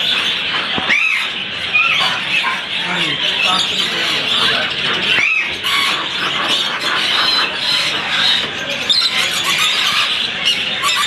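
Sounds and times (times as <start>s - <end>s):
falling squawk: 0.0s - 11.0s
parrots chattering and squealing: 0.0s - 11.0s.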